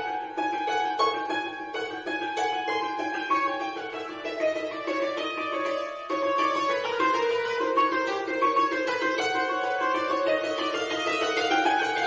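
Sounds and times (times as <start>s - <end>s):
hammered dulcimer playing: 0.0s - 12.0s.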